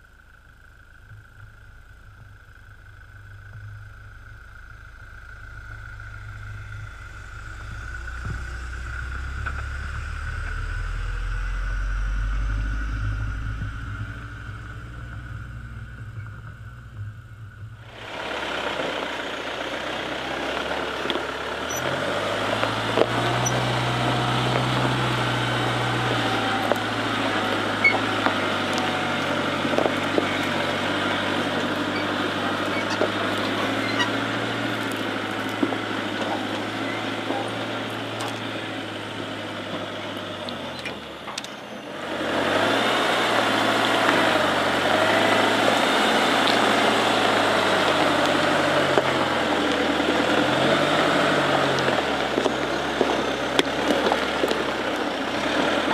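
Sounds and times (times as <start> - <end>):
diesel engine pulling at low revs: 0.0 - 55.9.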